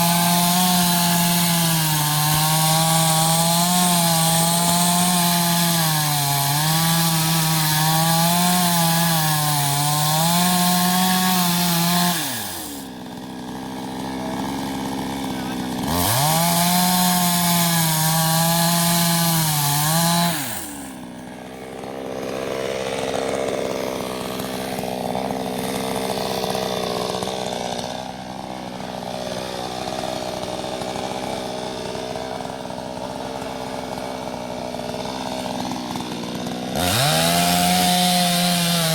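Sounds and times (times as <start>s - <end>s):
chainsaw cutting and idling: 0.0s - 38.9s.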